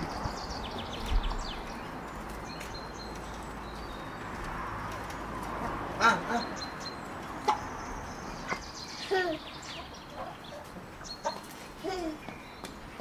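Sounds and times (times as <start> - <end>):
chickens chirping: 0.0 - 13.0
outdoor background noise: 0.0 - 13.0.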